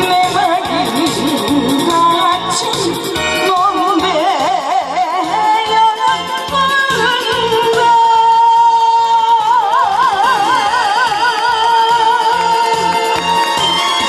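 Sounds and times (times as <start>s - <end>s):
woman singing with vibrato: 0.0s - 13.4s
backing track with steady beat: 0.0s - 14.0s.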